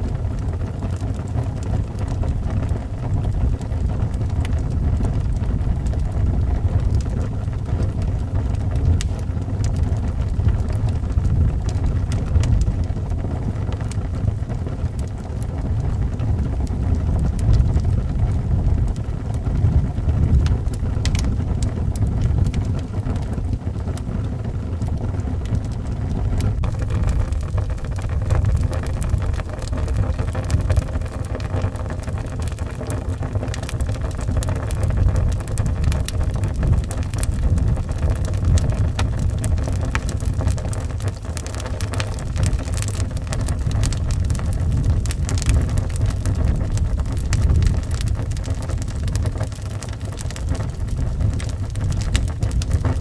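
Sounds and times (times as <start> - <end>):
low rumble of wind: 0.0 - 53.0
wood fire crackling: 0.0 - 53.0.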